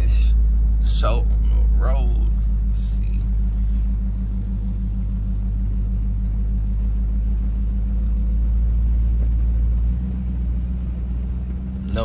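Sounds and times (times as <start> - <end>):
car engine rumbling inside cabin: 0.0 - 12.0.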